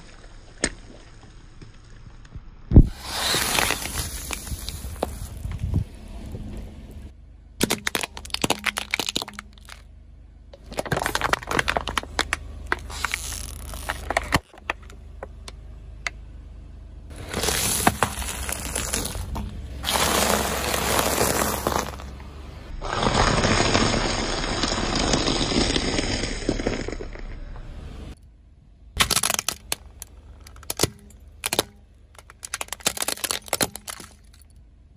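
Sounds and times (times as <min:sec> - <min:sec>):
toast crunching under tyre: 0:00.0 - 0:05.9, 0:07.6 - 0:09.9, 0:10.5 - 0:15.6, 0:17.1 - 0:27.4, 0:29.0 - 0:34.5
car tyre crushing objects: 0:00.0 - 0:16.2, 0:17.1 - 0:27.6, 0:29.0 - 0:34.5.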